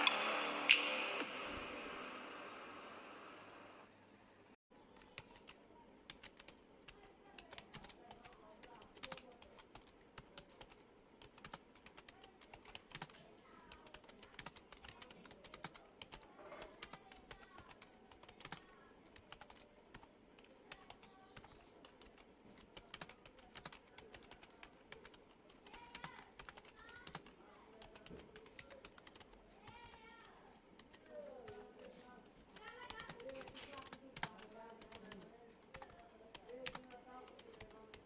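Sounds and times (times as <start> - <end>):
keyboard typing: 0.0 - 2.1, 4.8 - 31.6, 32.6 - 38.0.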